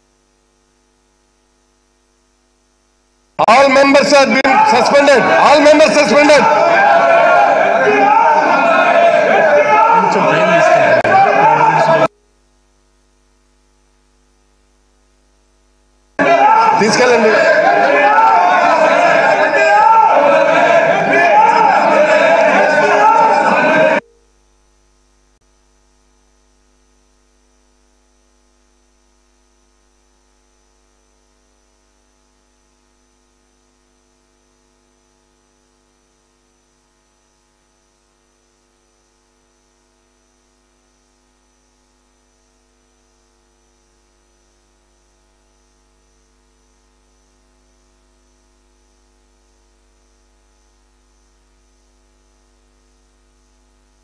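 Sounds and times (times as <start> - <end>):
faint high whine: 0.0 - 54.0
faint mains hum: 0.0 - 54.0.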